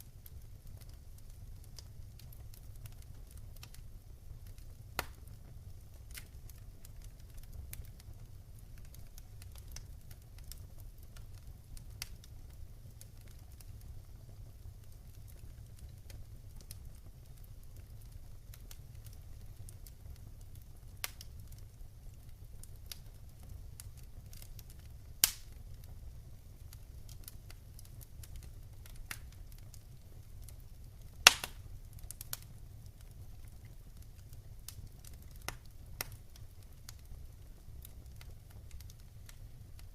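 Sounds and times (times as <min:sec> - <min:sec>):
loud pops of fire: 0:00.0 - 0:39.9
wood fire crackling: 0:00.0 - 0:39.9.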